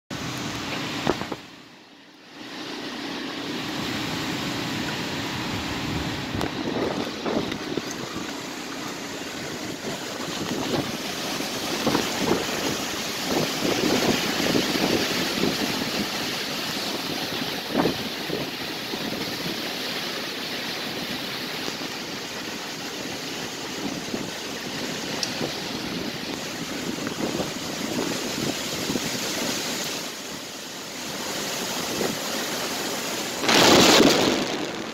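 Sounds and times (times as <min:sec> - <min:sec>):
strong wind rushing through trees: 0:00.1 - 0:34.9.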